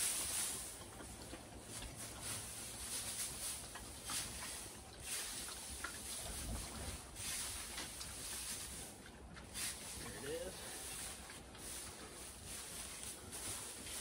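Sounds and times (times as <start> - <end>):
hay rustling and swishing: 0.0 - 14.0.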